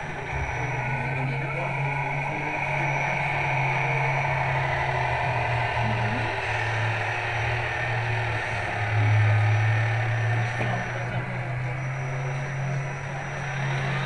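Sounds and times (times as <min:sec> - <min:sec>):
model truck engine drone: 0:00.0 - 0:14.0.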